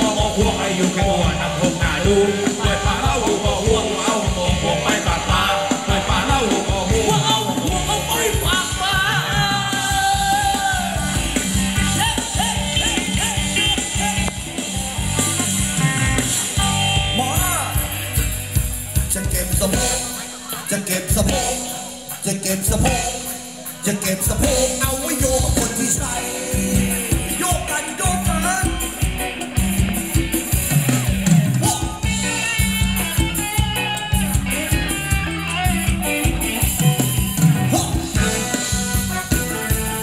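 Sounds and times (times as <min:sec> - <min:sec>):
person singing: 0:00.0 - 0:18.0, 0:19.0 - 0:29.5, 0:31.3 - 0:40.0
band playing dance music: 0:00.0 - 0:40.0.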